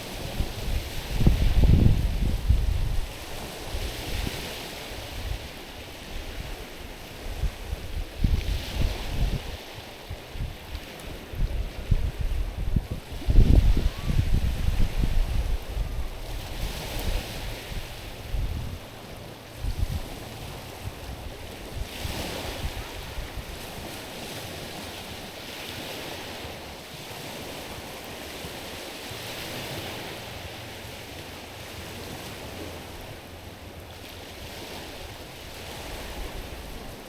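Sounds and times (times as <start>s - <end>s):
waves lapping on stony shore: 0.0s - 37.0s
wind buffeting microphone: 0.0s - 37.0s.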